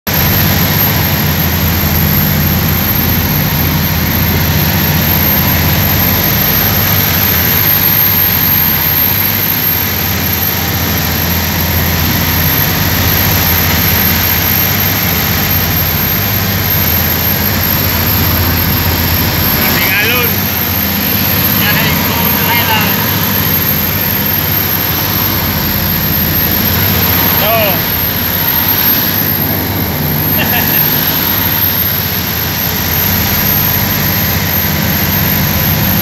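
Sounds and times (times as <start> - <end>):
motorboat engines running: 0.1 - 36.0.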